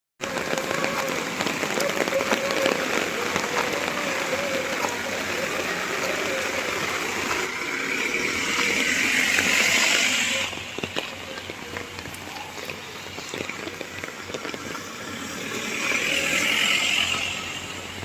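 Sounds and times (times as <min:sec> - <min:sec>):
steady rain hiss: 0:00.2 - 0:18.0.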